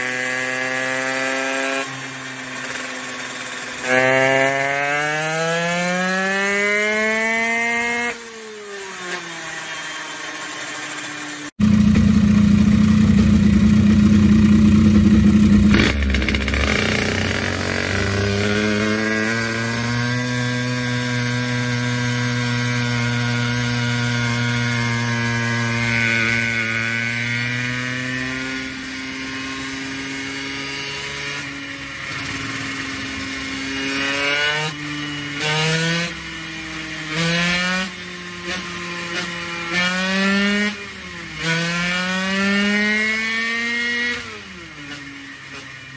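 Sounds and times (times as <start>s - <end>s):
two-stroke moped engine revving: 0.0s - 45.9s.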